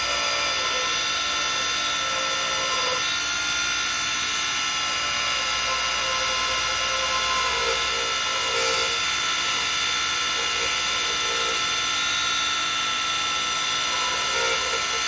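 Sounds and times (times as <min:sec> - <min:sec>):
turning tool cutting wood: 0:00.0 - 0:03.1, 0:04.7 - 0:15.0
wood lathe motor hum: 0:00.0 - 0:15.0.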